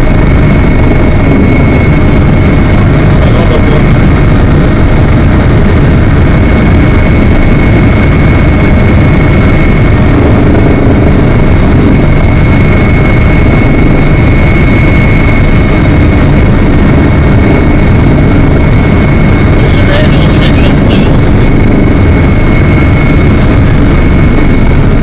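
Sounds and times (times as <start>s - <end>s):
aircraft cabin engine drone: 0.0s - 25.0s.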